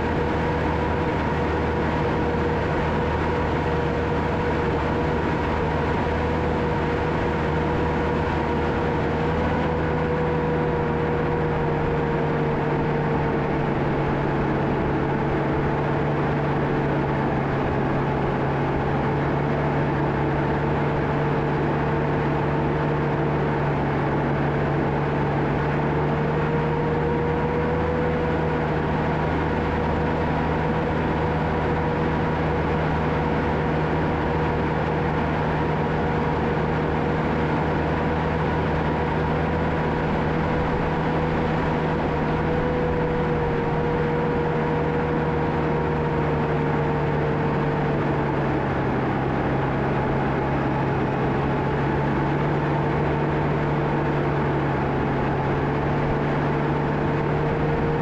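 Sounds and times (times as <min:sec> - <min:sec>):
bulldozer diesel drone: 0:00.0 - 0:58.0.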